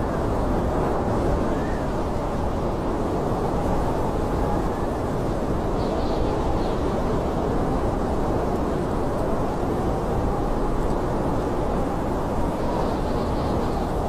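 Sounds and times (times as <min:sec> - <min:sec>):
blizzard wind blowing: 0:00.0 - 0:14.0.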